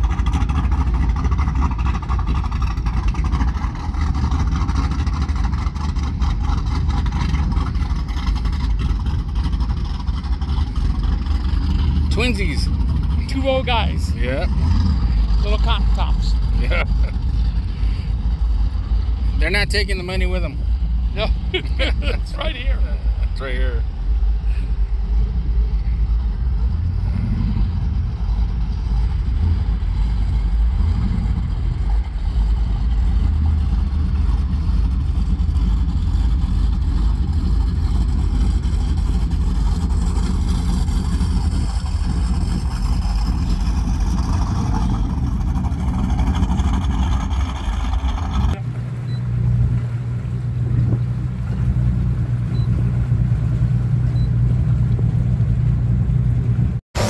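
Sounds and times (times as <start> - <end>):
powerboat engines running: 0.0 - 57.0.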